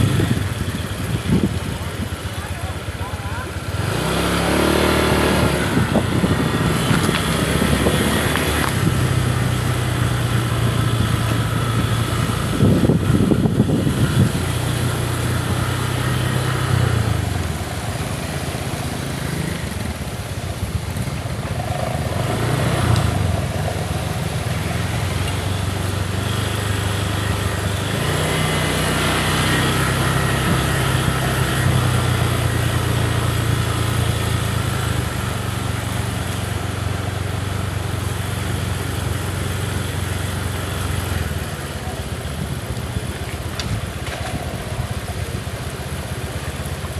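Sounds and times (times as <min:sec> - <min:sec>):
small motorcycle engine running: 0:00.0 - 0:46.9.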